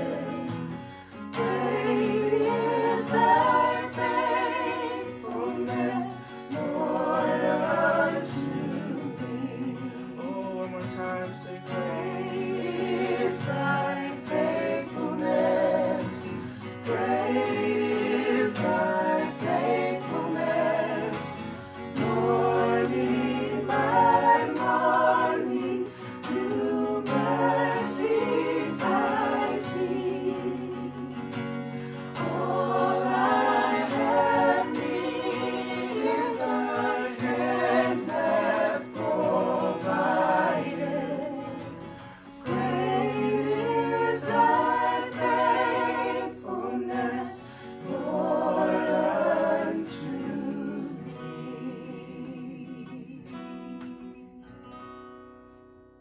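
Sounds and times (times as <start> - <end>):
group singing: 0.0 - 54.2
guitar accompaniment: 0.0 - 56.0.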